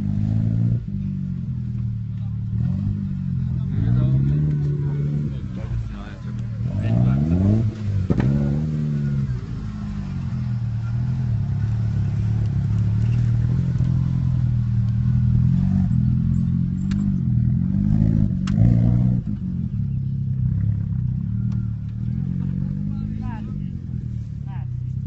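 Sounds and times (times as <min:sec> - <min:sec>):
engine revving: 0:00.0 - 0:24.2.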